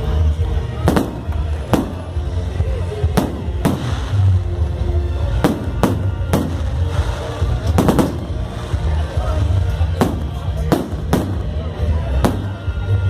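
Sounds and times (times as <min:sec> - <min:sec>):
background music with bass: 0:00.0 - 0:13.0
fireworks bangs: 0:00.8 - 0:13.0.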